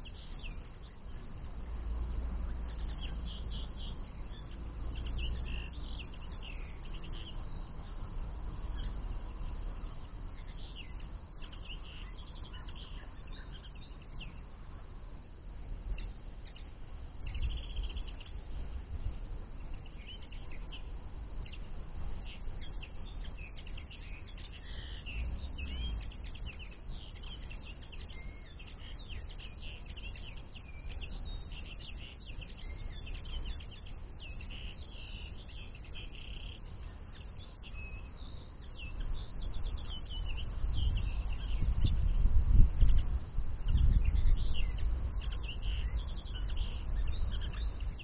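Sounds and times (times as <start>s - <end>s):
linnets twittering: 0.0s - 1.7s, 2.4s - 48.0s.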